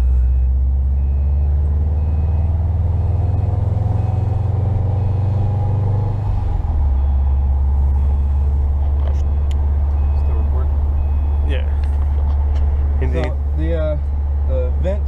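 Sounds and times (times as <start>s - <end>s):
car engine running: 0.0s - 15.0s
faint turbo whine: 0.0s - 15.0s.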